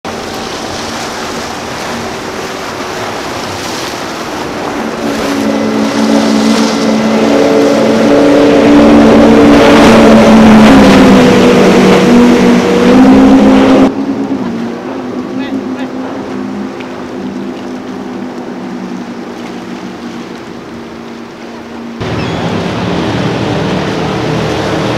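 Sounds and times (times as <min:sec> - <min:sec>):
speedboat engines revving high: 0:00.0 - 0:24.9.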